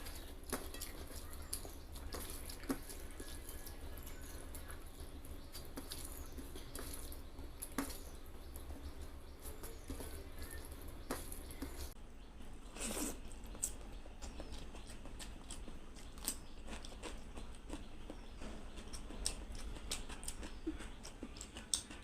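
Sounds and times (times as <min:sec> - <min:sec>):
wet chewing and lip smacks: 0:00.0 - 0:12.0, 0:12.8 - 0:22.0.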